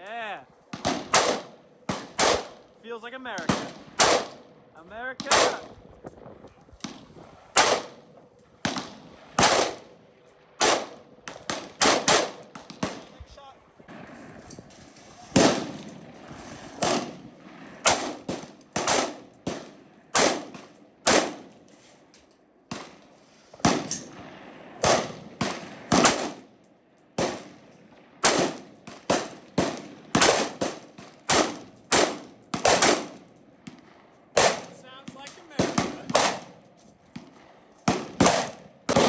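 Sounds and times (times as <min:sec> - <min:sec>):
sharp gunshots with echo: 0:00.7 - 0:05.9, 0:06.8 - 0:14.5, 0:15.2 - 0:21.5, 0:22.7 - 0:26.5, 0:27.2 - 0:36.6, 0:37.2 - 0:39.0.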